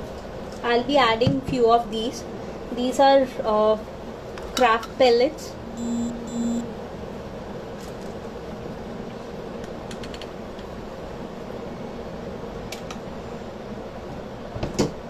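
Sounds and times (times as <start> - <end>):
steady whirring hum: 0.0 - 15.0.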